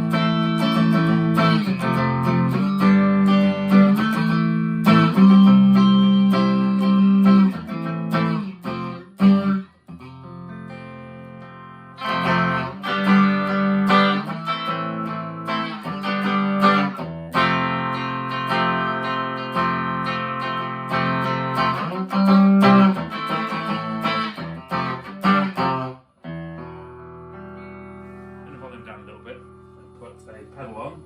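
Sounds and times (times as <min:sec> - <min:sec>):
clean electric guitar strumming: 0:00.0 - 0:31.0.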